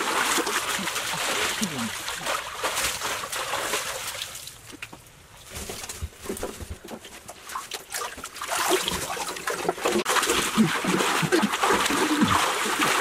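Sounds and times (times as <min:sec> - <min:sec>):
water splashing in a pool: 0:00.0 - 0:04.9, 0:07.1 - 0:13.0.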